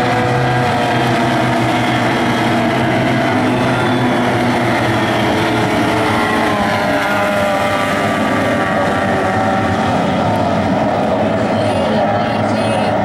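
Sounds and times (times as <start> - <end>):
outboard racing engines whining: 0.0 - 13.0.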